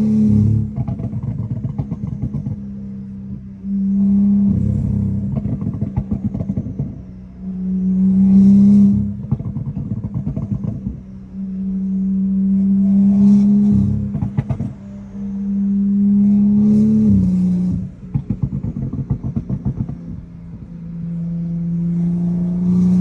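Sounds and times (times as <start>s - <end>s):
car engine accelerating: 0.0s - 23.0s
exhaust crackling and popping: 0.0s - 23.0s.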